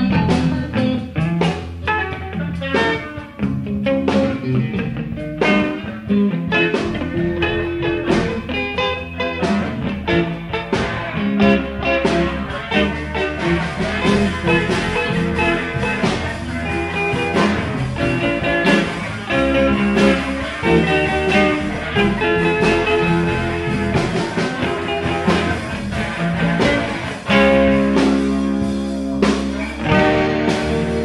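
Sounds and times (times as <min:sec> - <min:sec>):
guitar plucked notes: 0:00.0 - 0:31.0
rock music: 0:00.0 - 0:31.0.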